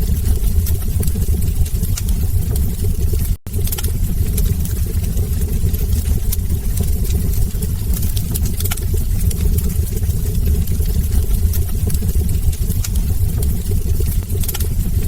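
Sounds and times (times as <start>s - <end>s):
fire rumbling: 0.0s - 15.0s
wood crackling and popping: 0.0s - 15.0s.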